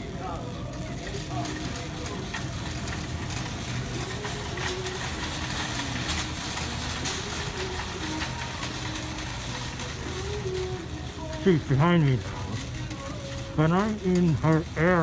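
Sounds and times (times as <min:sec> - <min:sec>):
cart frame rattling: 0:00.0 - 0:15.0
cart wheels rumbling: 0:00.0 - 0:15.0.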